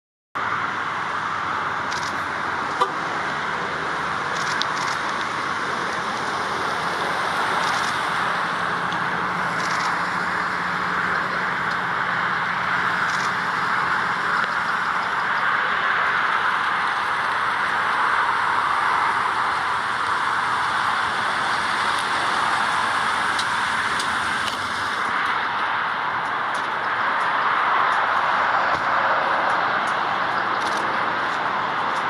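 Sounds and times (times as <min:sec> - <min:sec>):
road traffic passing: 0:00.4 - 0:32.0.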